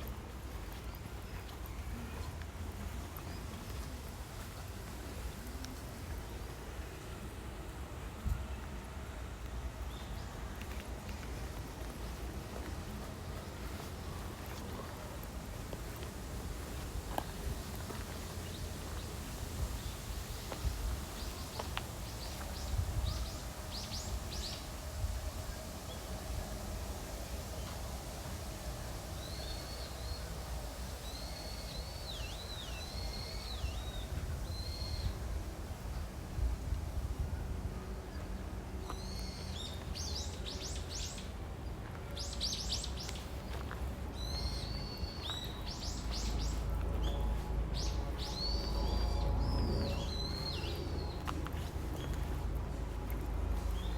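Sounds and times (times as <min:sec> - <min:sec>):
steady low rumble: 0:00.0 - 0:53.9.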